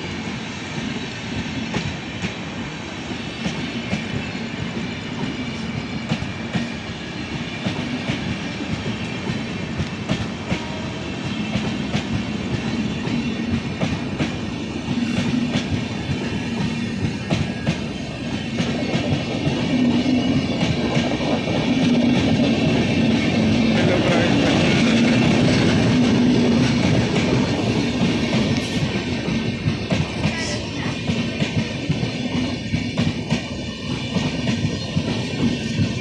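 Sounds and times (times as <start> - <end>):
clickety-clack over rail joints: 0.0 - 36.0
train wheels rumbling on rail: 0.0 - 36.0.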